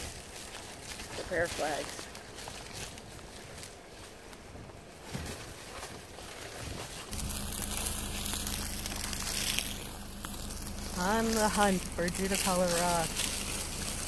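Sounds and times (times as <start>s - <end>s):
footsteps on dry leaves: 0.0s - 14.0s
steady hiss with low hum: 0.0s - 14.0s.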